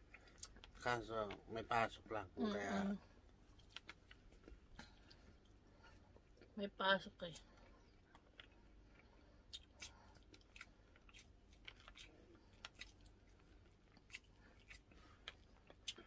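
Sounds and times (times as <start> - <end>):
faint chewing: 0.0 - 2.2, 3.0 - 6.6, 7.3 - 16.0.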